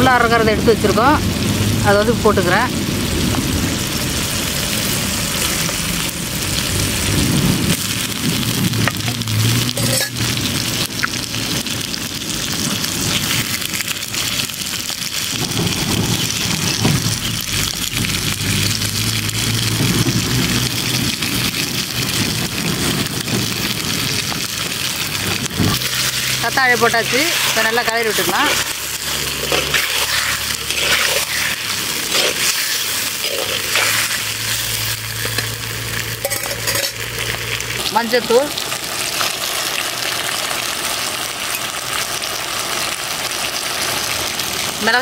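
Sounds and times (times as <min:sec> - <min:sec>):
vegetables sizzling in hot oil: 0:00.0 - 0:45.0.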